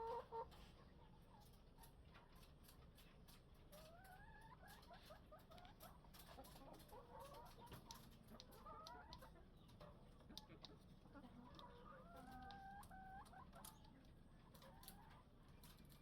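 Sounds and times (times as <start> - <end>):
chicken clucking: 0.0 - 16.0.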